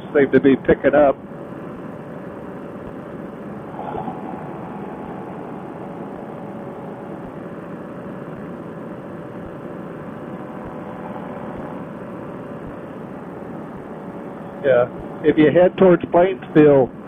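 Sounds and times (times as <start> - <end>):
paramotor engine and propeller: 0.0 - 16.9.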